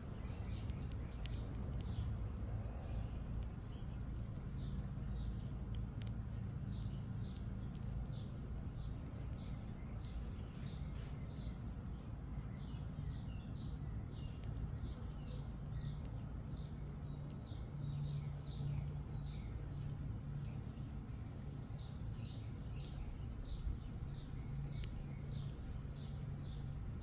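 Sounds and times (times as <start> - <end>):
campfire crackling: 0.0 - 27.0
steady low hum: 0.0 - 27.0.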